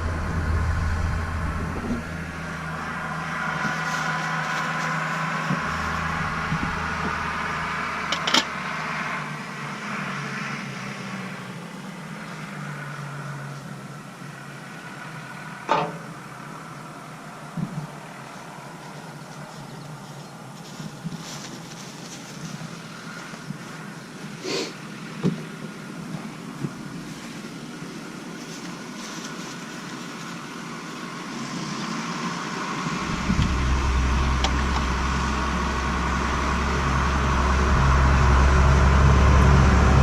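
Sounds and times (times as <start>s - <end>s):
tractor engine droning: 0.0s - 11.6s, 19.4s - 40.0s.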